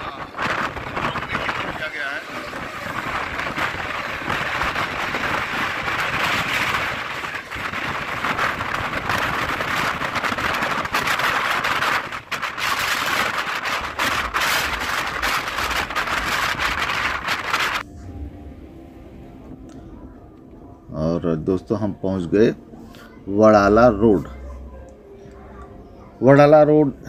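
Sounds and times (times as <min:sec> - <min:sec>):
train wheel and wind rush: 0:00.0 - 0:24.4.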